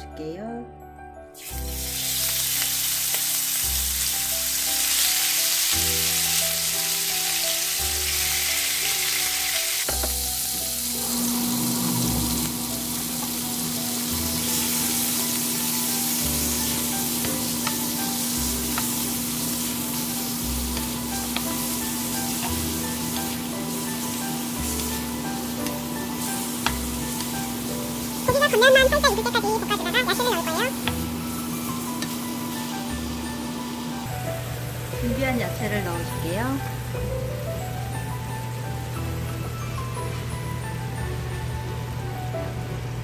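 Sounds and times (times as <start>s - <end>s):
meat sizzling in a frying pan: 1.4s - 41.0s.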